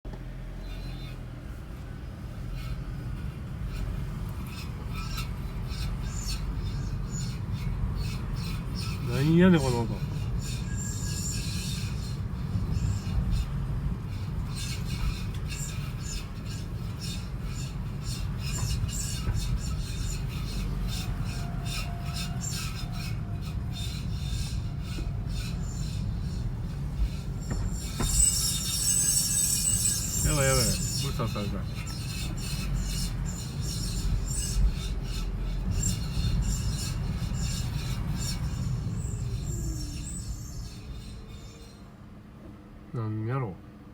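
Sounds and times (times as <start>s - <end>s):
low car rumble: 0.0s - 43.9s
high-pitched metallic scraping: 2.5s - 41.9s.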